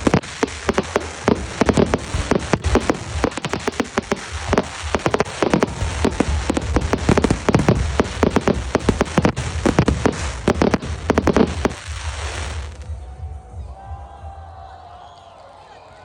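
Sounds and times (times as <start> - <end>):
fireworks popping and crackling: 0.0 - 12.8
low rumble: 0.0 - 13.6.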